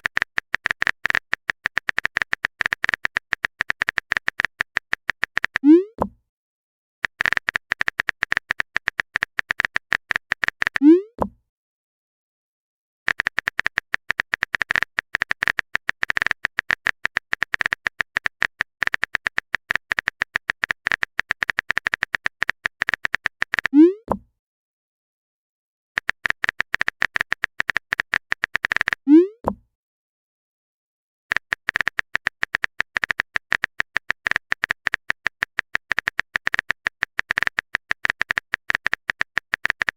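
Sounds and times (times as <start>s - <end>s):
phone keyboard tapping clicks: 0.0s - 6.2s, 7.0s - 11.4s, 13.1s - 24.3s, 26.0s - 29.6s, 31.3s - 39.9s.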